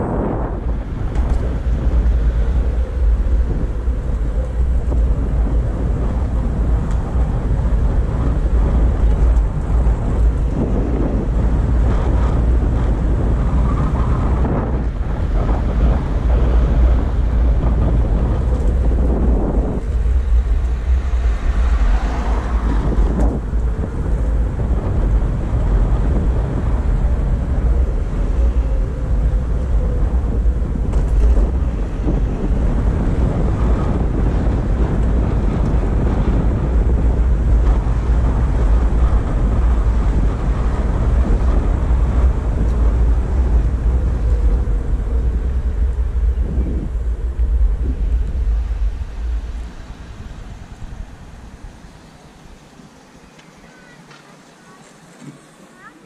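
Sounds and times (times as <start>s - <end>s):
wind buffeting microphone: 0.0s - 54.2s
skateboard rumbling: 0.0s - 56.0s.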